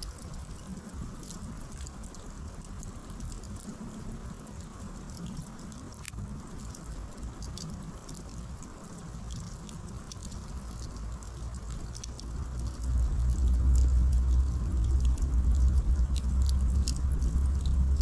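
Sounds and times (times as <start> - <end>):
campfire crackling: 0.0 - 18.0
low steady fire rush: 0.0 - 18.0.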